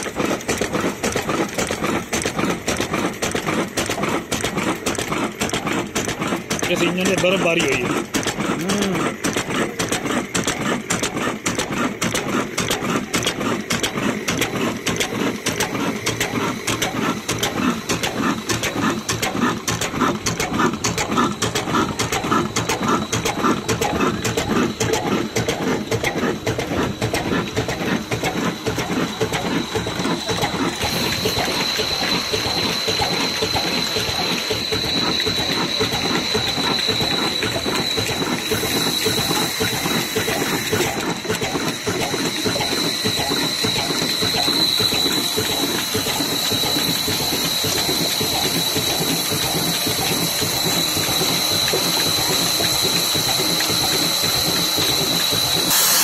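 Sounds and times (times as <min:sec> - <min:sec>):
diesel engine clattering: 0:00.0 - 0:56.0.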